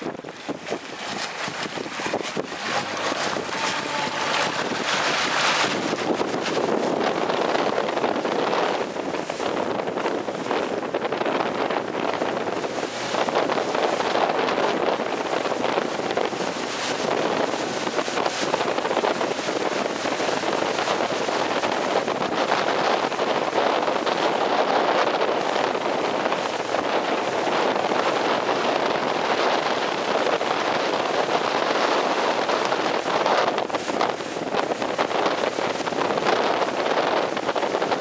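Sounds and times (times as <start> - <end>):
choppy water rushing: 0.0 - 38.0
wind buffeting microphone: 0.0 - 38.0.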